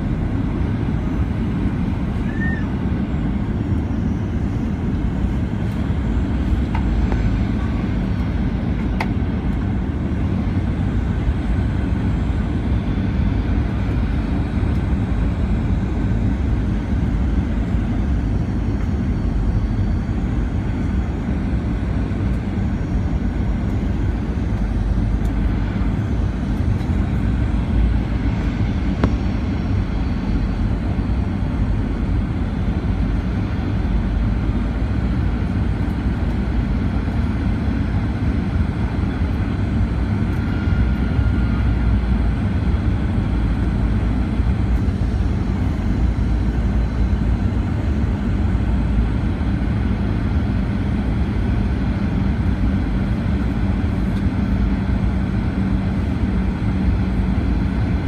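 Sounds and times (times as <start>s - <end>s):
airliner engines rumbling: 0.0s - 58.0s.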